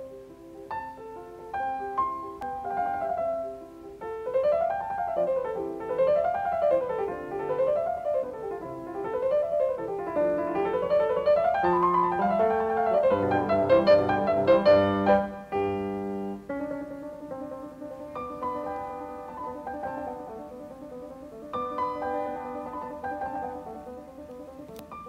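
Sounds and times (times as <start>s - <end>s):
piano arpeggios: 0.0s - 25.0s.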